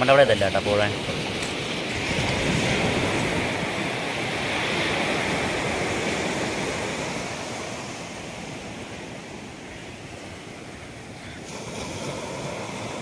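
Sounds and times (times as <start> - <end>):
surf breaking on beach: 0.0 - 13.0.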